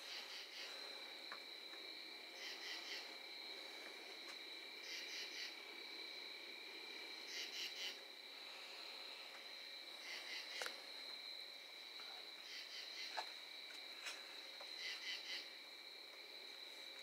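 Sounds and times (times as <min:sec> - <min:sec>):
cricket chirps: 0:00.0 - 0:17.0
crickets trilling: 0:00.0 - 0:17.0.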